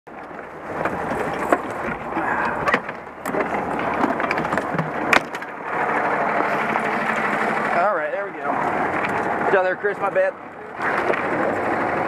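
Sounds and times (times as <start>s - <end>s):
fire engine running: 0.1s - 12.0s.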